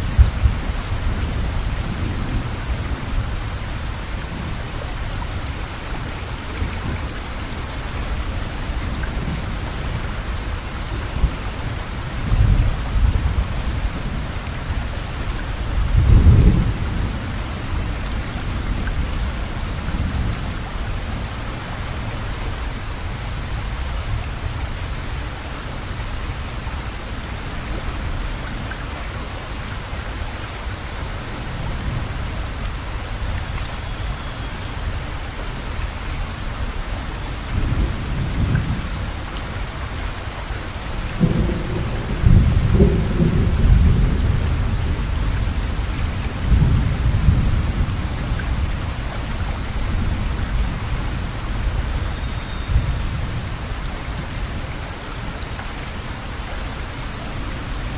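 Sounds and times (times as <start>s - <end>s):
rain falling: 0.0s - 57.9s.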